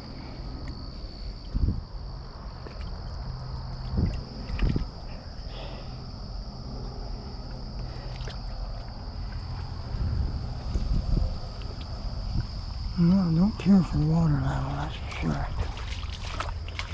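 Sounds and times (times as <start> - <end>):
water sloshing and splashing: 0.0 - 12.5, 13.6 - 16.9
high insect trill: 0.0 - 16.9.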